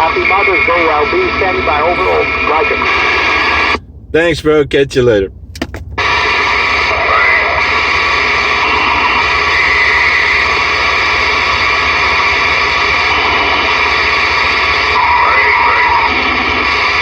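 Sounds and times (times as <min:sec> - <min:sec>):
radio static hiss: 0:00.0 - 0:03.8, 0:06.0 - 0:17.0
faint steady tones: 0:00.0 - 0:17.0.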